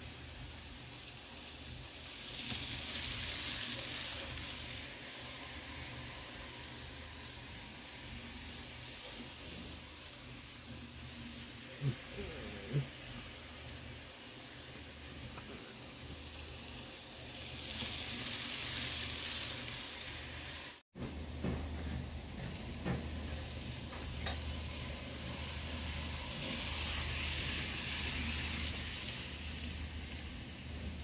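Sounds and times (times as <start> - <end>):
model train hiss: 0.0 - 31.0.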